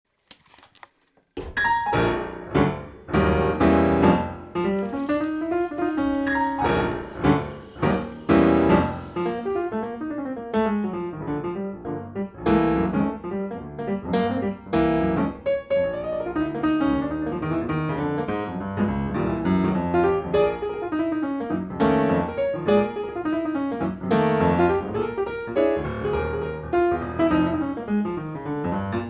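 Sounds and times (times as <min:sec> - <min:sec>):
solo piano music: 0:01.4 - 0:29.0.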